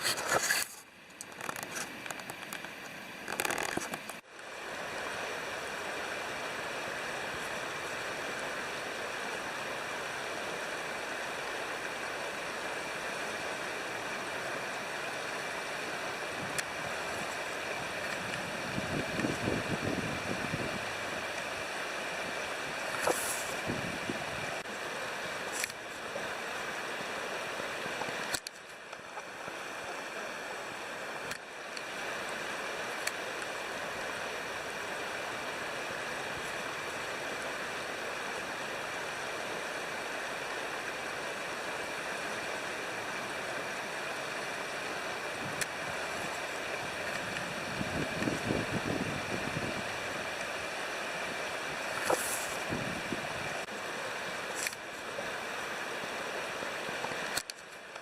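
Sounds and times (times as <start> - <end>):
river water rushing: 0.9 - 58.0.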